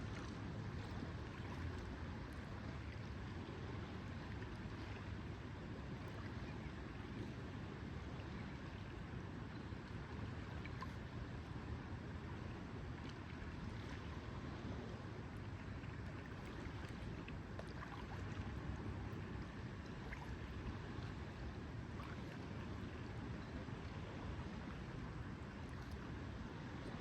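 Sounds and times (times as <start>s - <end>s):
lake water lapping: 0.0s - 7.2s, 10.3s - 27.0s.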